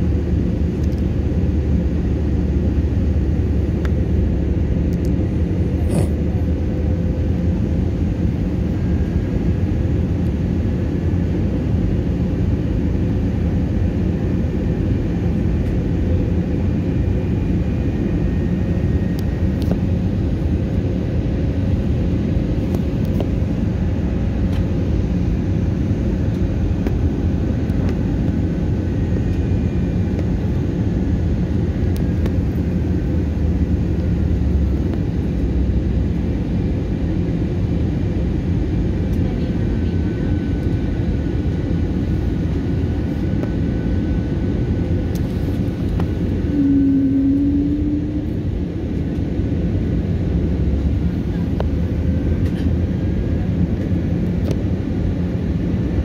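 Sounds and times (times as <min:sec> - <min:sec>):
airliner cabin roar: 0:00.0 - 0:56.0
steady hum: 0:00.0 - 0:56.0.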